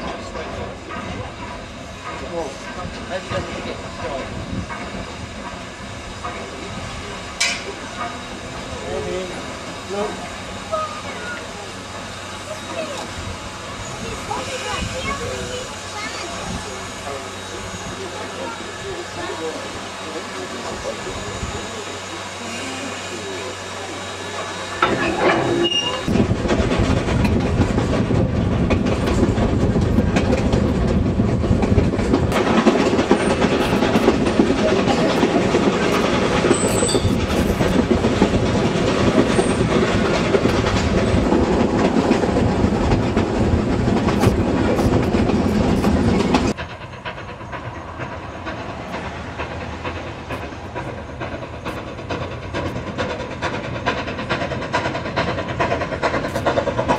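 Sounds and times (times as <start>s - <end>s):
train wheels clattering over rails: 0.0s - 22.0s, 23.3s - 56.9s
steam hissing: 0.2s - 56.9s.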